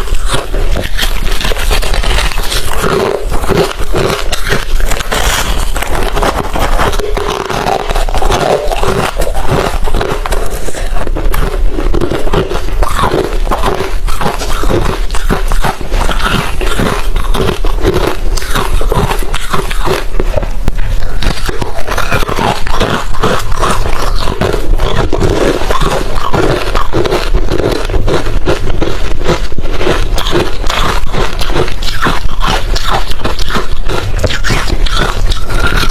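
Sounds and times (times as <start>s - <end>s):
chewing crunchy ice: 0.0s - 35.9s.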